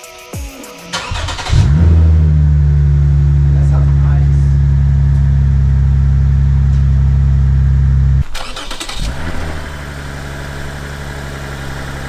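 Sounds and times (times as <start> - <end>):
car engine idling: 1.0 - 12.0.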